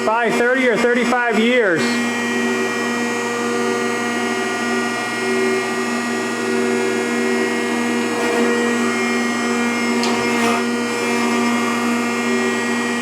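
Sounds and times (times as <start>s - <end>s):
planer machine whining: 0.0s - 13.0s.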